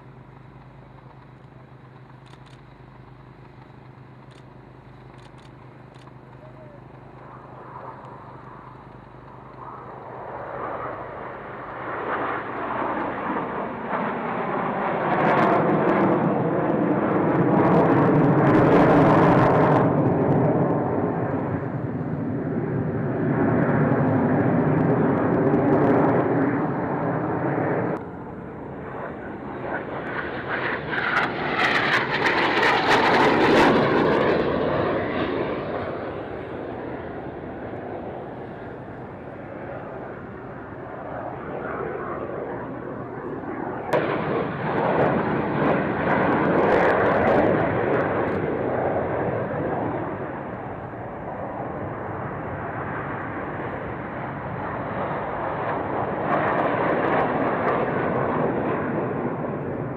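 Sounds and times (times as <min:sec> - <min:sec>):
aircraft engine: 0:00.0 - 0:59.9.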